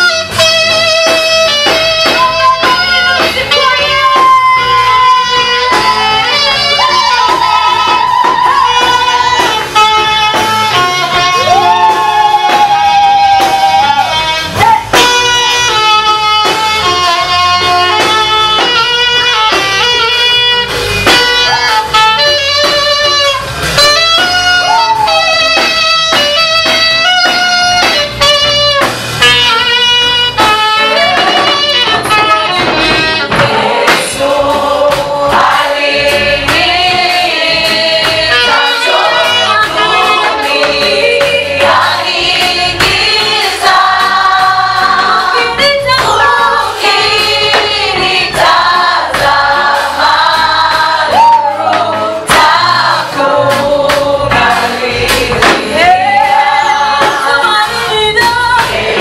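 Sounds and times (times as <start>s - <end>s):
choir singing a gospel hymn: 0.0s - 28.2s, 28.8s - 59.0s.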